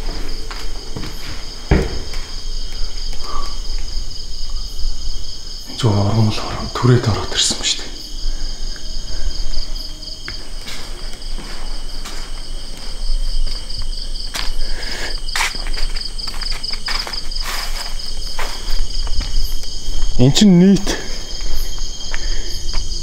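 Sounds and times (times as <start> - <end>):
footsteps: 0.0 - 23.0
insects trilling: 0.0 - 23.0.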